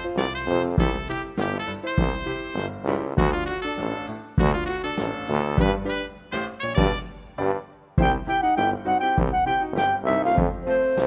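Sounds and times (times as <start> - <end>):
jazzy tune with brass and keyboard: 0.0 - 11.0.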